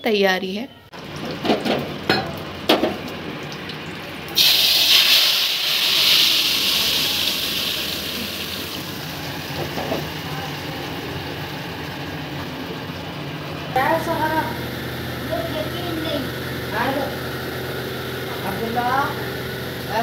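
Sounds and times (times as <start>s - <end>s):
hot oil sizzling: 1.0s - 20.0s.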